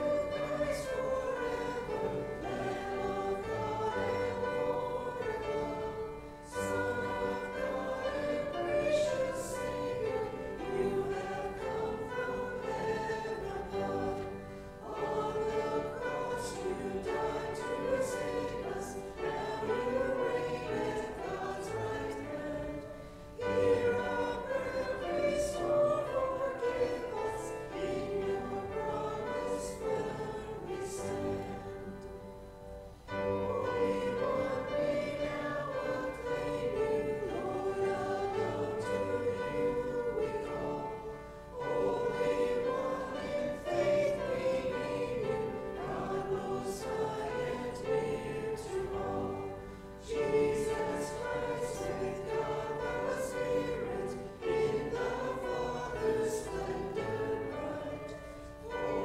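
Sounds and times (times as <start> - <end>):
congregation singing a hymn: 0.0 - 59.0
piano accompaniment: 0.0 - 59.0.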